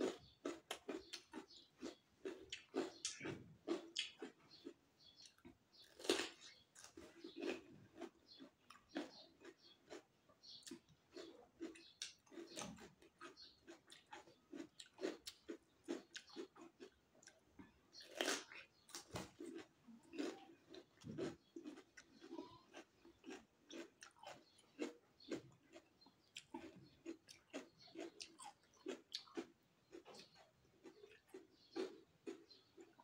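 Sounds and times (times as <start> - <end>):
chewing cucumber crunches: 0.0 - 33.0.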